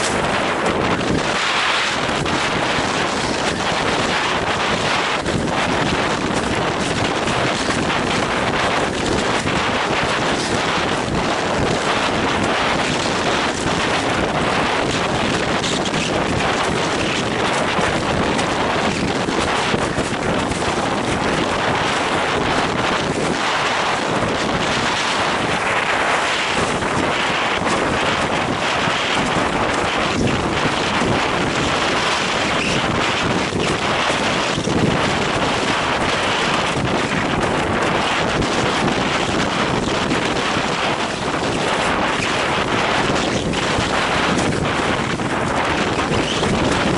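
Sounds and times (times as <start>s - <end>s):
water rushing beneath board: 0.0s - 46.9s
wind buffeting microphone: 0.0s - 46.9s.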